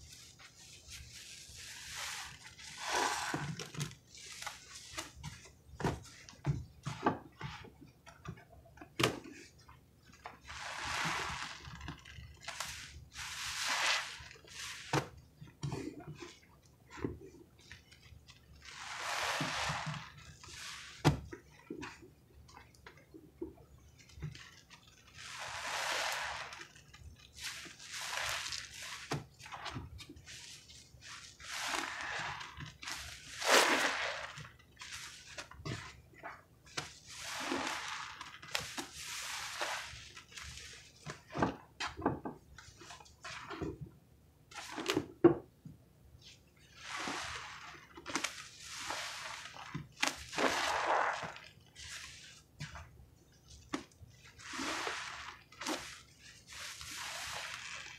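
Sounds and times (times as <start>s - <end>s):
sponge squelching: 0.0s - 43.8s, 44.5s - 45.1s, 46.2s - 57.9s.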